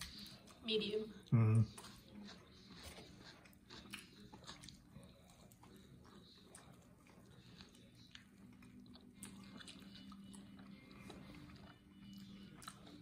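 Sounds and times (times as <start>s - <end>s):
man chewing and smacking: 0.0s - 0.6s, 1.2s - 13.0s.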